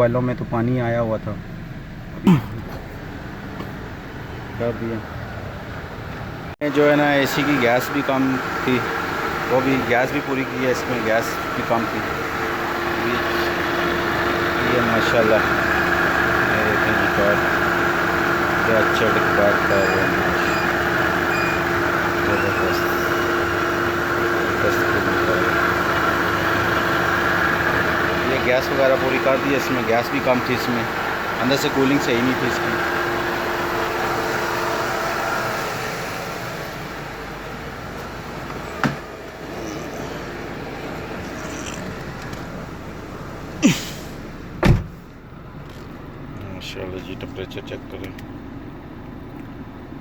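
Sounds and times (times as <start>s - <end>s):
car engine idling: 0.0s - 50.0s.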